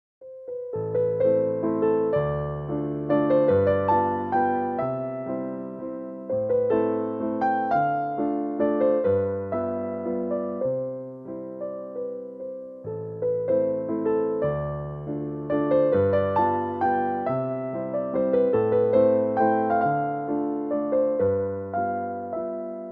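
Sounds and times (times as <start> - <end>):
gentle electric piano melody: 0.2 - 22.9.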